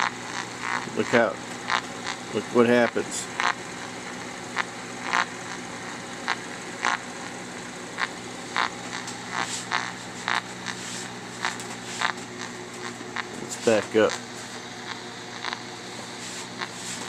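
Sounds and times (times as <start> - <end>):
radio static bursts: 0.0 - 17.0
steady hum: 0.0 - 17.0.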